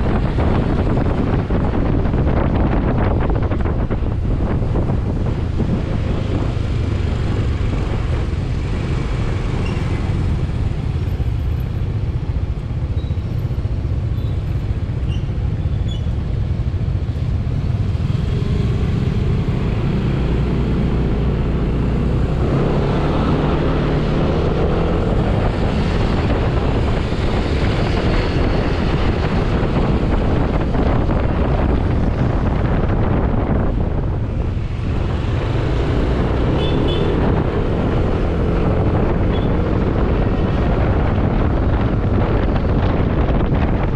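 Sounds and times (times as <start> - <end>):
traffic noise: 0.0 - 43.9
wind rushing on microphone: 0.0 - 43.9.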